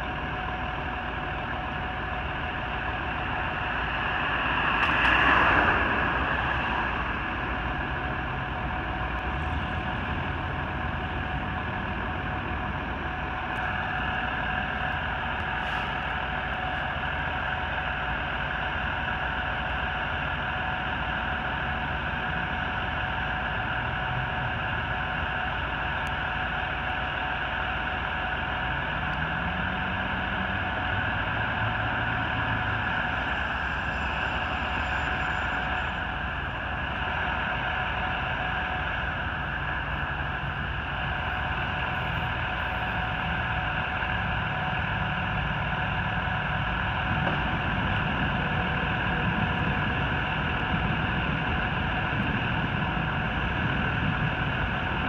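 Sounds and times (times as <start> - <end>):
fire truck diesel engine idling: 0.0 - 4.9, 5.6 - 55.0.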